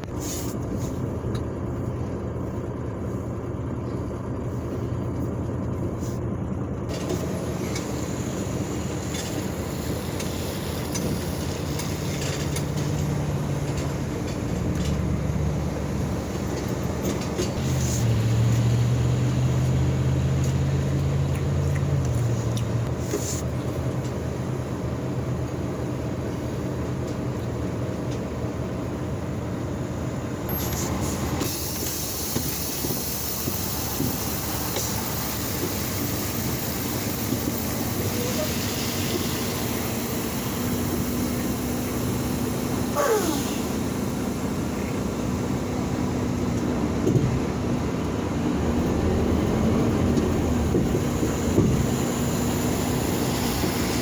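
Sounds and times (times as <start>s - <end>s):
truck diesel engine revving: 0.0s - 54.0s.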